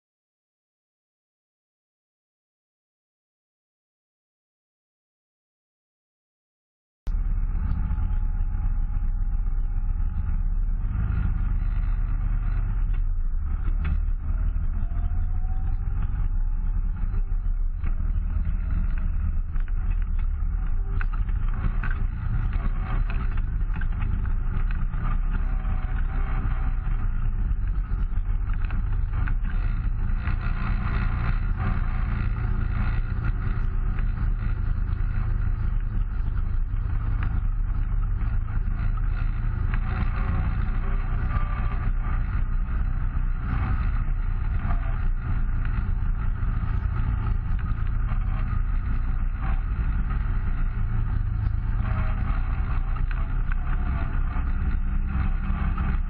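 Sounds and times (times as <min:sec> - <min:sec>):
vehicle engine running: 0:07.1 - 0:56.0.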